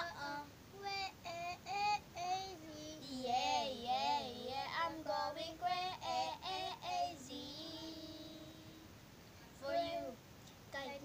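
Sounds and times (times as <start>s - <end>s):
young girls singing: 0.0s - 9.0s.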